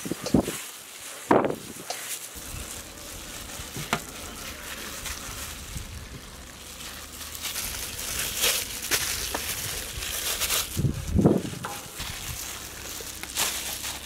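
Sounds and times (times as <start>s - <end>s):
gloves and mash rustling: 0.0s - 14.0s.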